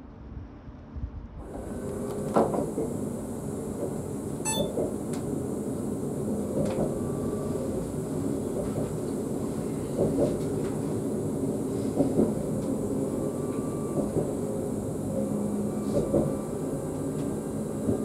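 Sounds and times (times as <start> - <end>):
train running noise: 1.3 - 18.0.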